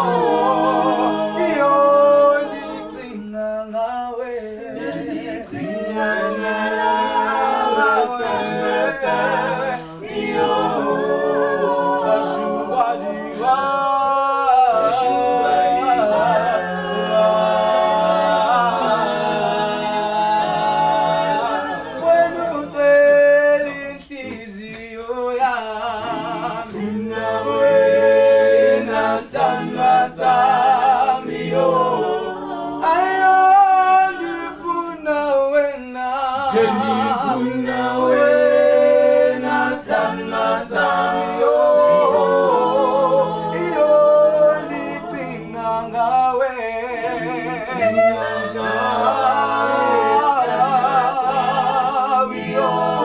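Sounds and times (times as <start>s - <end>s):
mixed choir singing a cappella: 0.0s - 53.0s.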